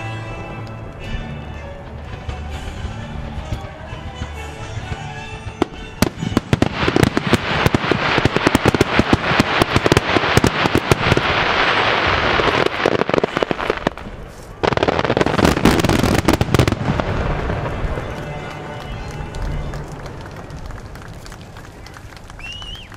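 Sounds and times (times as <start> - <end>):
continuous firework hiss: 0.0 - 22.9.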